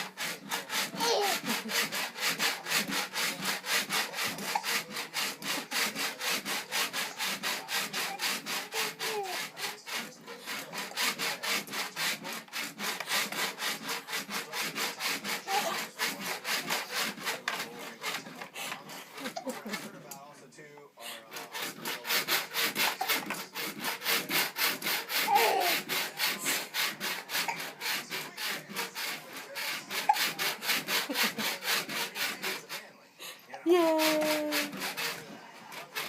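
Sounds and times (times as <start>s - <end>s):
rhythmic scraping: 0.0s - 36.0s.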